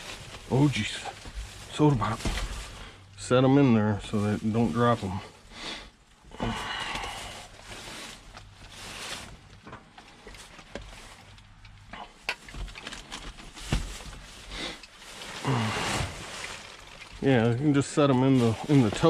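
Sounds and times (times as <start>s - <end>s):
rustling of bags and packaging: 0.0s - 19.0s.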